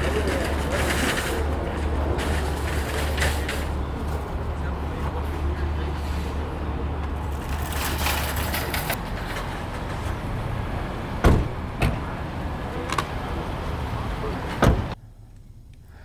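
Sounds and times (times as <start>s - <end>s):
traffic background: 0.0s - 16.0s.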